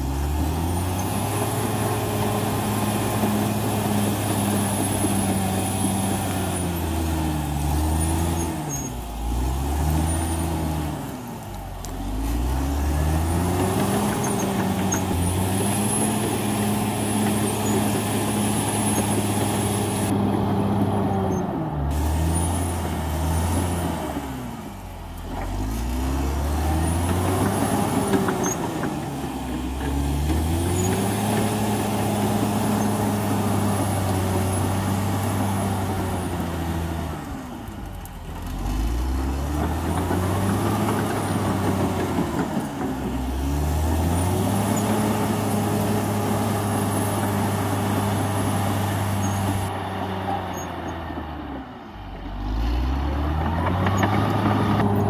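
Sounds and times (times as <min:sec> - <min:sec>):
bulldozer diesel engine running hard: 0:00.0 - 0:55.0.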